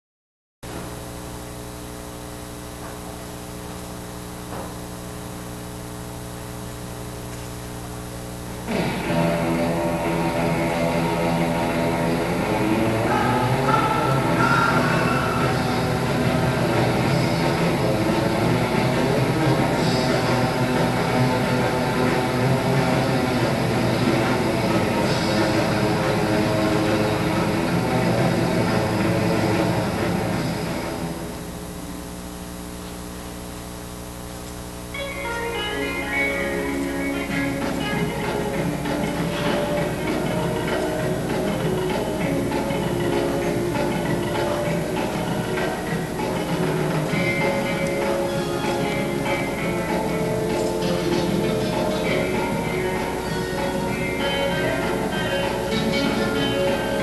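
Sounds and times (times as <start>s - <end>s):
electrical mains hum: 0.6s - 57.0s
droning music over loudspeakers: 0.7s - 57.0s.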